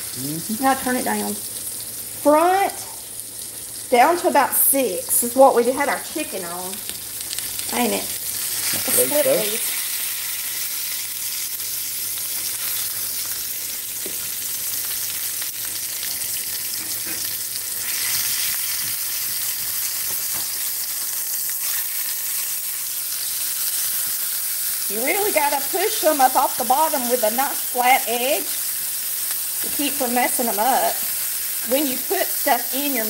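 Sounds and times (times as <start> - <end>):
patties sizzling in skillet: 0.0 - 33.0.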